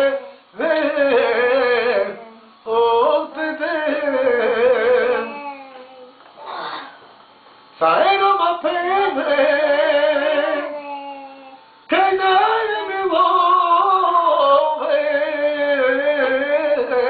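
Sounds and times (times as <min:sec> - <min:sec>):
man singing: 0:00.0 - 0:06.2, 0:07.8 - 0:17.0.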